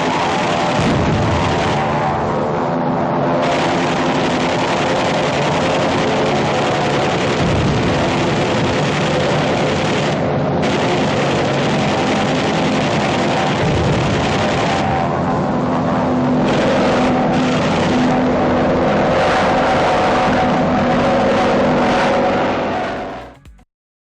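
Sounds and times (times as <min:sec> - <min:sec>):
piston aircraft engine drone: 0:00.0 - 0:23.4.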